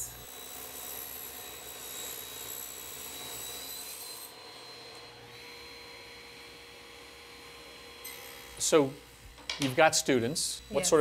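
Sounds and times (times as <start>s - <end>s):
table saw cutting wood: 0.0s - 11.0s.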